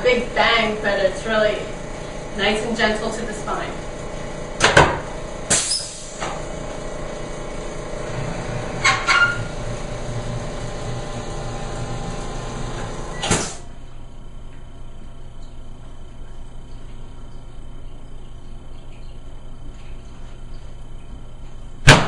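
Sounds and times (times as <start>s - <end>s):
air compressor hum: 0.0s - 22.0s.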